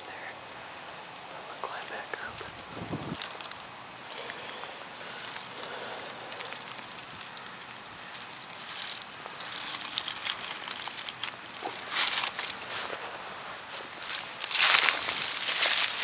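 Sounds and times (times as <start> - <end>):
footsteps crunching dry leaves: 2.7 - 16.0.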